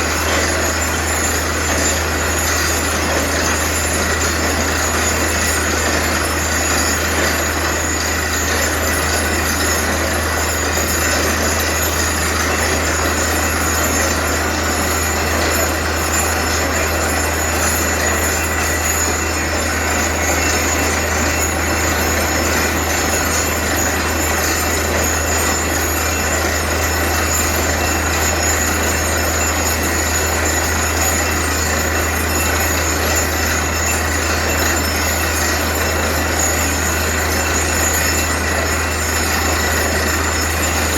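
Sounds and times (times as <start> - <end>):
drilling rig engine hum: 0.0 - 40.9.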